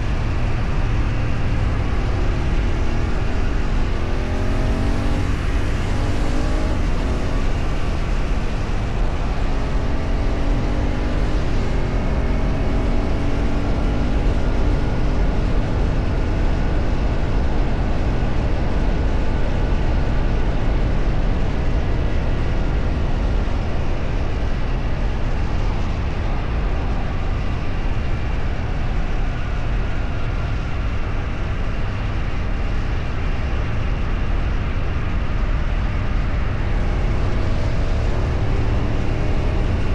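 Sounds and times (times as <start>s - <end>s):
heavy rushing noise: 0.0s - 20.2s, 22.8s - 39.9s
vehicle engine: 0.0s - 39.9s.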